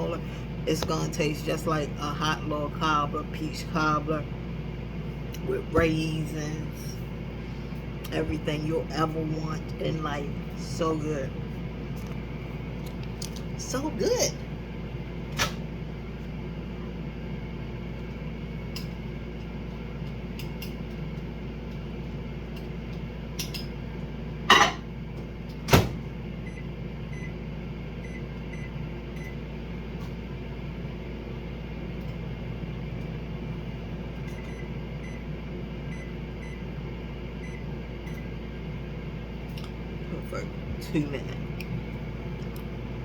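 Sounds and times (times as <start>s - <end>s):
microwave oven humming: 0.0s - 43.0s.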